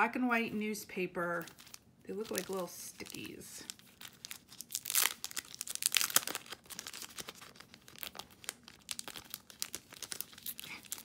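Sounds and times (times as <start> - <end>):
plastic wrapper crinkling: 1.2 - 11.0.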